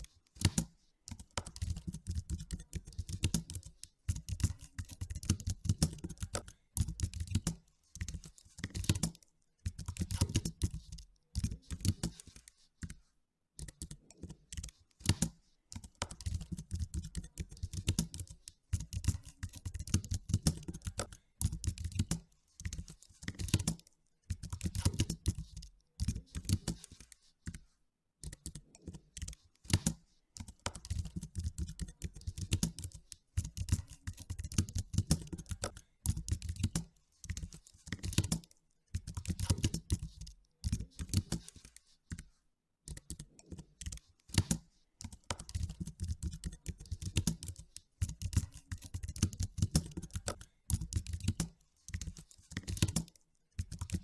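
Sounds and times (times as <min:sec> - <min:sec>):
computer keyboard typing: 0:00.0 - 0:13.0, 0:13.6 - 0:27.6, 0:28.2 - 0:54.0.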